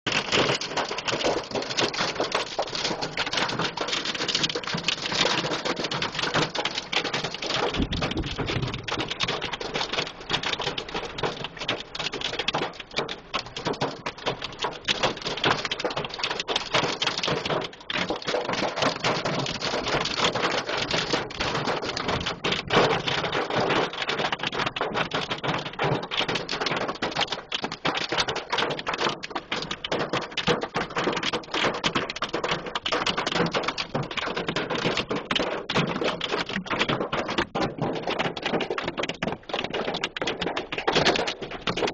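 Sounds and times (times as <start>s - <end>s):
hail and rain on car roof: 0.1s - 41.9s.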